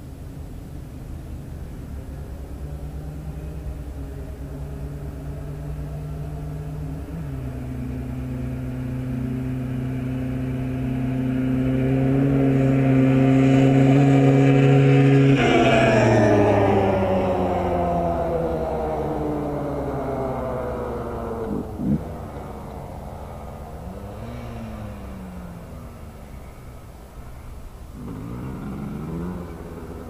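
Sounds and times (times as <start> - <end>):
quad bike engine running hard: 1.5 - 30.0.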